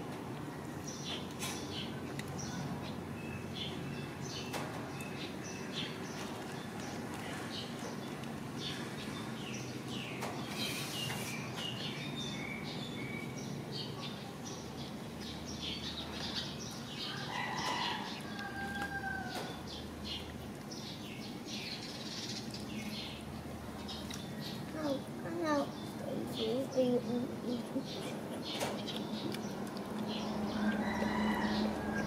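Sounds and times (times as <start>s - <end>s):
small birds chirping: 0.8s - 32.0s.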